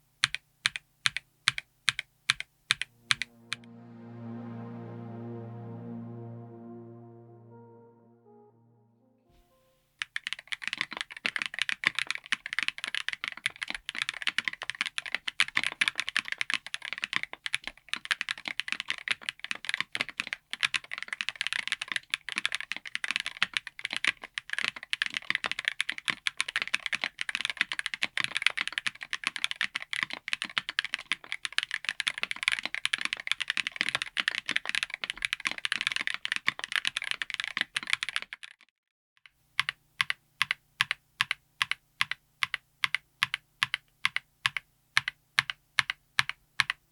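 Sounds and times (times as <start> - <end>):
fast typing on mechanical keyboard: 0.2 - 2.9, 10.1 - 38.6, 39.6 - 46.8.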